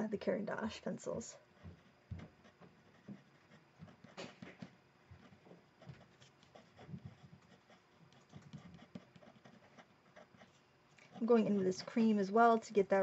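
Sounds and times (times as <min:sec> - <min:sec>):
pencil scratching on paper: 0:01.5 - 0:12.0.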